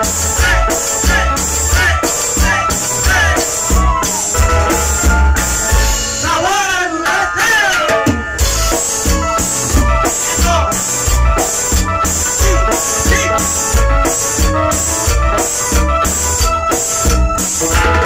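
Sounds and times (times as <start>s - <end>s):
drum beat with cymbals: 0.0s - 6.5s, 7.9s - 18.0s
bass: 0.0s - 18.0s
keyboard melody with pitch bends: 0.0s - 18.0s.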